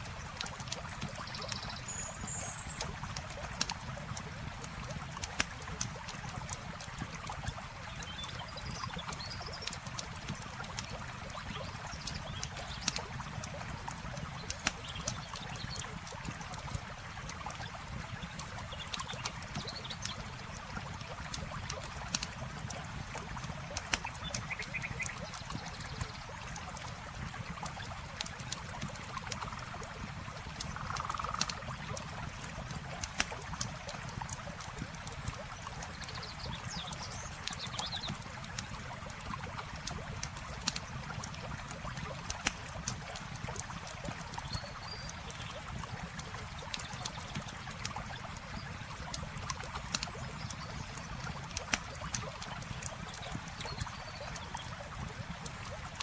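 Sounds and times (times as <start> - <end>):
running water: 0.0 - 56.0
campfire crackling and popping: 0.1 - 1.8, 2.7 - 56.0.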